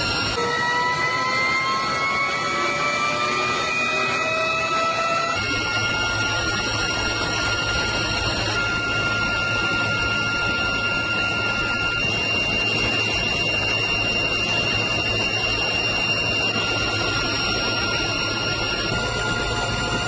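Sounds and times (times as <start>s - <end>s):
helicopter engines and rotor: 0.0s - 20.0s.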